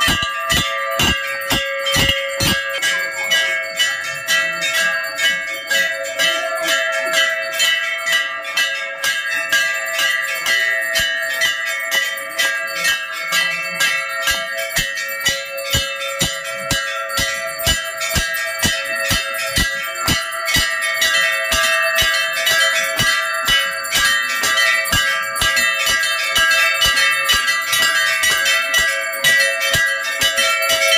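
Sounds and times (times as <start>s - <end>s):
metal bells clanging: 0.0s - 30.9s.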